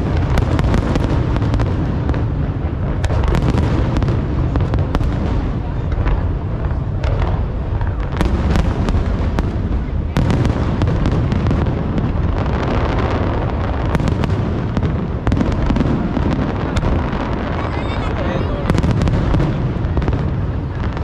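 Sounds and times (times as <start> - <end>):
fireworks cracks and pops: 0.0 - 21.0.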